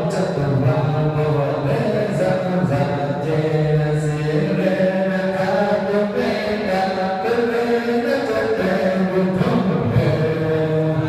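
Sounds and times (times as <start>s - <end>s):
voices chanting in a drone: 0.0s - 11.0s.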